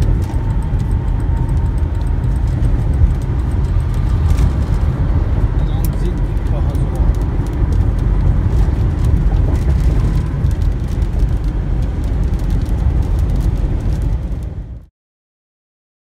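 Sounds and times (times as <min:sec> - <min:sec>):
truck cab road rumble: 0:00.0 - 0:14.9.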